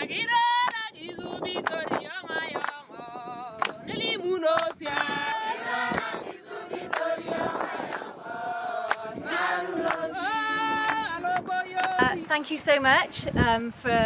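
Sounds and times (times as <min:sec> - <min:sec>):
group singing unaccompanied: 0:00.0 - 0:12.3.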